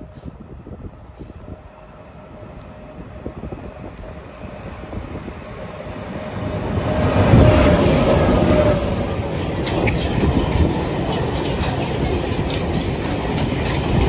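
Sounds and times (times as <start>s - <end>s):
freight train passing: 0.0s - 14.0s
locomotive whine: 0.0s - 14.0s.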